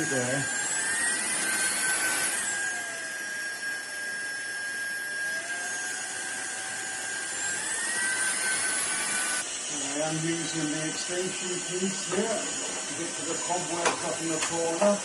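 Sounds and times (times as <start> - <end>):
vacuum motor whine: 0.0 - 15.0.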